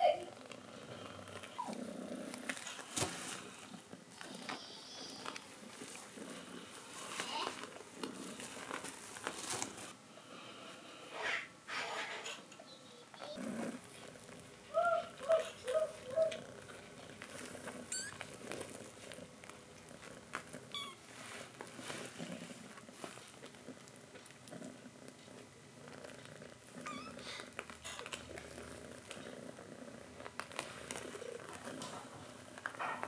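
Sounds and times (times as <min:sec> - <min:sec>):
cat purring: 0:00.0 - 0:11.3, 0:11.9 - 0:33.0.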